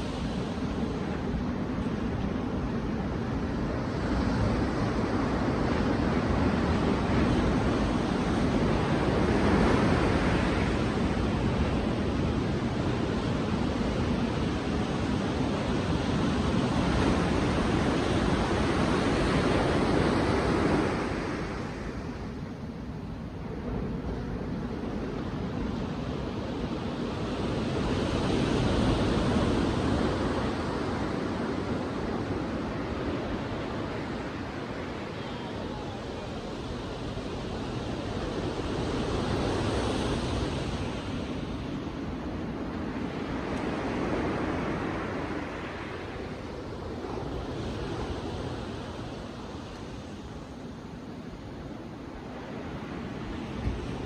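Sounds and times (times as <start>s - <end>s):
sea waves breaking on beach: 0.0s - 22.4s, 23.4s - 54.0s
wind on microphone: 0.0s - 54.0s.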